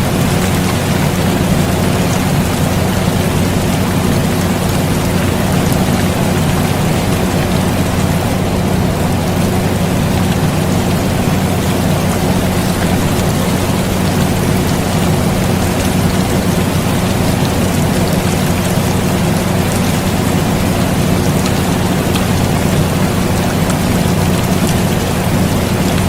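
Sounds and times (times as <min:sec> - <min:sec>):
air conditioner humming: 0:00.0 - 0:26.0
steady rain falling: 0:00.0 - 0:26.0.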